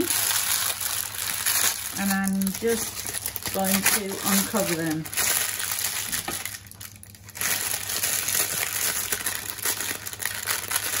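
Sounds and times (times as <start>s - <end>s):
parchment and foil crinkling: 0.0s - 11.0s.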